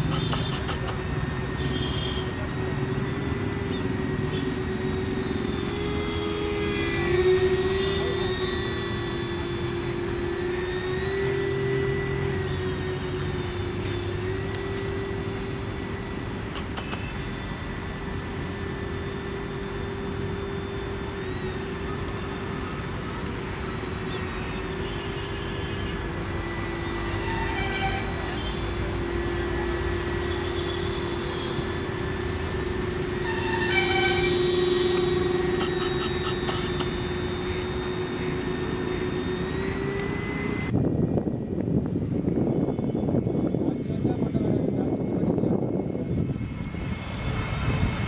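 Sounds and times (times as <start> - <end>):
electric motors whining: 0.0 - 48.0.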